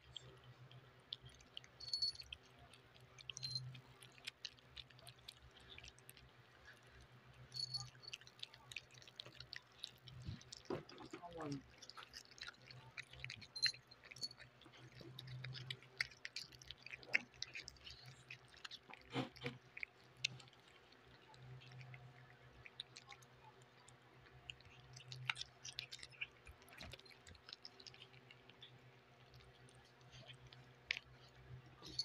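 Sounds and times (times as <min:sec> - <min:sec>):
cats chewing wet food: 0:00.0 - 0:32.0.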